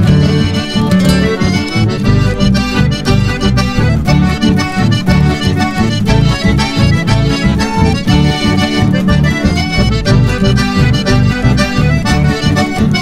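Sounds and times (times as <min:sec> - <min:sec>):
accordion melody: 0:00.0 - 0:13.0
pulsing bass line: 0:00.0 - 0:13.0.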